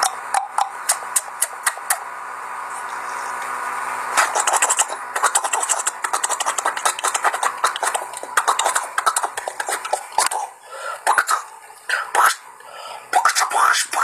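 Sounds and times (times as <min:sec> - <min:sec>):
person beatboxing: 0:00.0 - 0:02.1, 0:04.2 - 0:12.4, 0:13.1 - 0:14.0.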